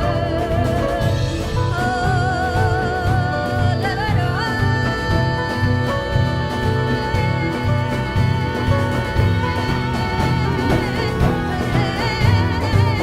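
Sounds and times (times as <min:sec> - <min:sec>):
low drum beat: 0:00.0 - 0:13.0
woman singing with vibrato: 0:00.0 - 0:13.0.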